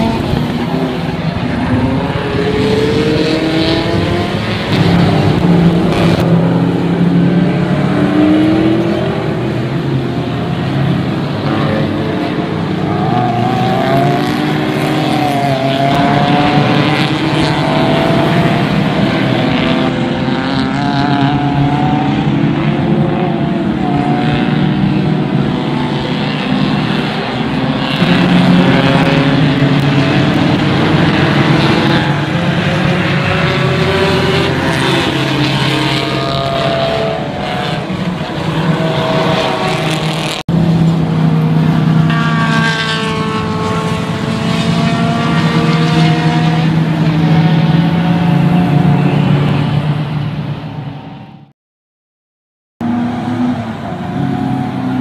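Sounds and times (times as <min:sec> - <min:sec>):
race car engines revving: 0:00.0 - 0:51.5, 0:52.8 - 0:55.0.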